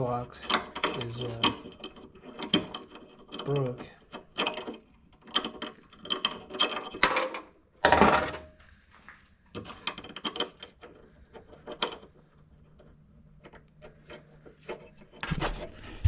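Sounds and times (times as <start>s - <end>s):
parts knocking and rattling: 0.0s - 8.6s, 9.5s - 16.0s.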